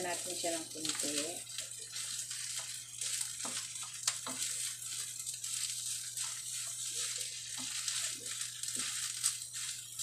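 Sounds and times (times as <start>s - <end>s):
food sizzling: 0.0s - 10.0s
spatula scraping pan: 0.0s - 10.0s.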